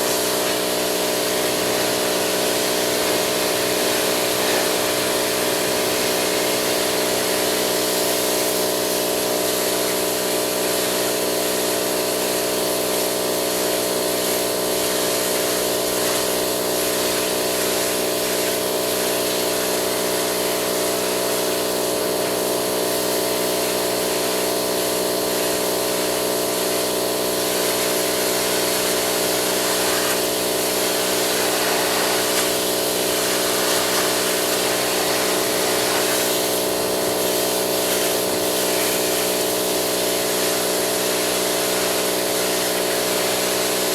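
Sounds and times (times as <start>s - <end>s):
pressure washer motor humming: 0.0s - 43.9s
water spray hissing: 0.0s - 43.9s.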